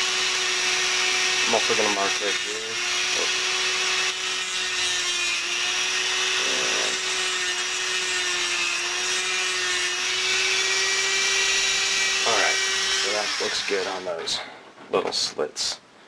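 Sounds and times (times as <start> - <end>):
rotary tool cutting: 0.0 - 14.2.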